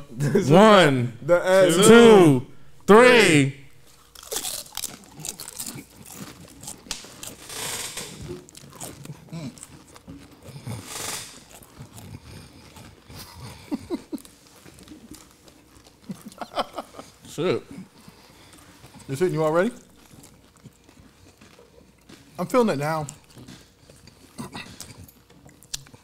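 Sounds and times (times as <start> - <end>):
chewing: 3.8 - 26.0
people crunching chips: 3.8 - 26.0.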